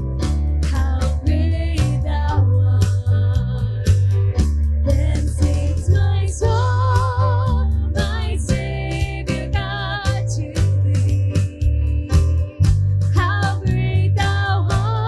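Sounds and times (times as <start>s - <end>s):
bass line: 0.0s - 15.0s
guitar: 0.0s - 15.0s
steady drum beat: 0.0s - 15.0s.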